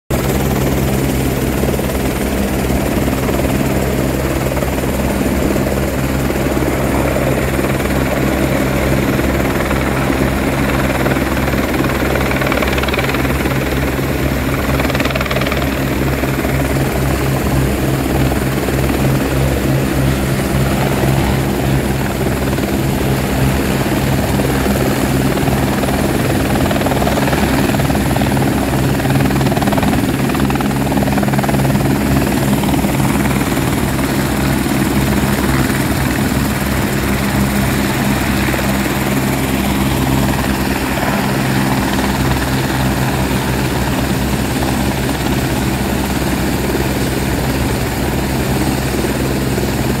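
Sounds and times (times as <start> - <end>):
helicopter turbine and rotor: 0.1 - 50.0.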